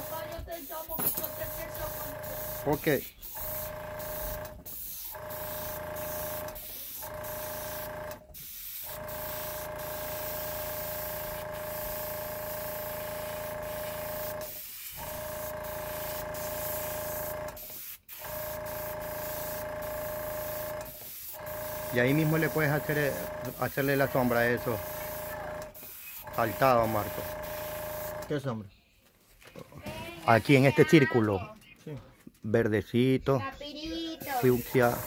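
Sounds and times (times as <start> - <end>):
air compressor humming: 0.0 - 28.3, 34.2 - 35.0
airbrush hissing: 0.0 - 28.3, 34.2 - 35.0.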